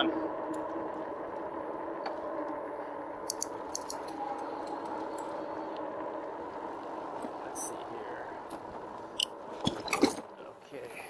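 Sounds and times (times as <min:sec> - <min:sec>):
electric bike hum: 0:00.0 - 0:11.0.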